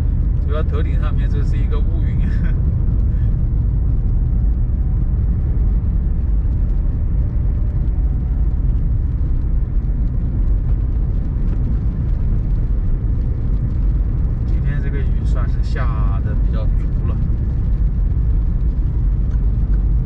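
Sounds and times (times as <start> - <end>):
van road and engine rumble: 0.0 - 20.0.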